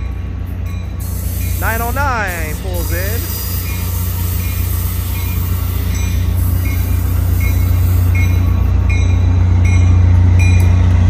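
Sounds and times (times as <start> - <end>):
diesel locomotive hum: 0.0 - 11.0
locomotive bell ringing: 0.0 - 11.0.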